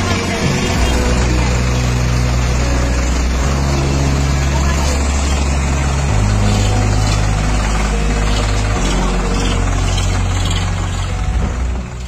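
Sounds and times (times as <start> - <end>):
tractor diesel engines running: 0.0 - 12.0.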